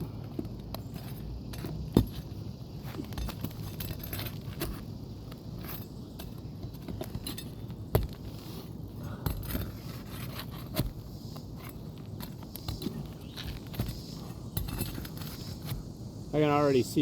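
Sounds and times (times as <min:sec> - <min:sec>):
metal tool scraping shingles: 0:00.9 - 0:04.9, 0:05.5 - 0:15.8.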